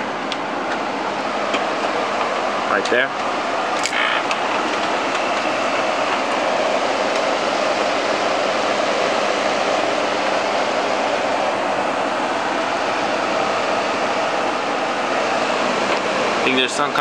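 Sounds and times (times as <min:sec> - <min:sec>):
window air conditioner running: 0:00.0 - 0:17.0.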